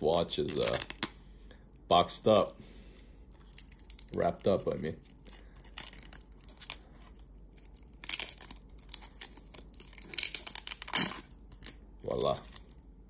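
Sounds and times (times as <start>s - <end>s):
plastic film crackling and tearing: 0.0s - 1.2s, 1.8s - 12.9s.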